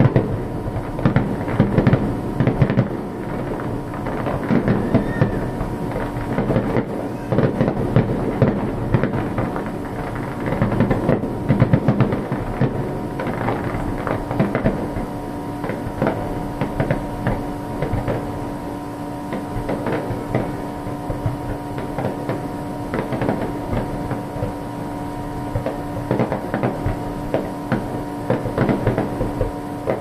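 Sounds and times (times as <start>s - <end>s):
fireworks popping and crackling: 0.0s - 30.0s
steady hum: 0.0s - 30.0s.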